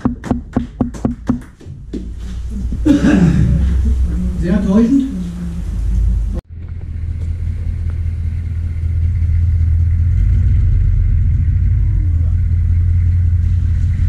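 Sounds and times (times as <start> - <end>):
pickup truck engine droning: 2.1 - 14.0.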